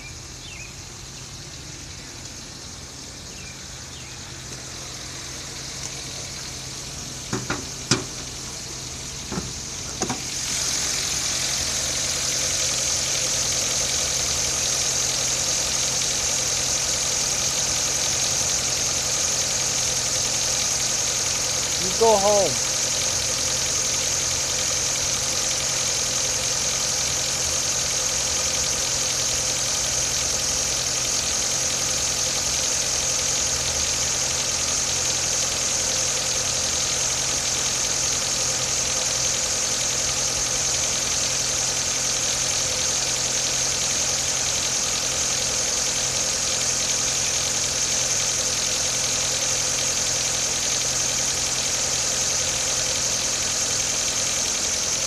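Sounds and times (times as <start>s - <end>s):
car engine idling: 0.0s - 55.0s
engine knocking: 0.4s - 55.0s.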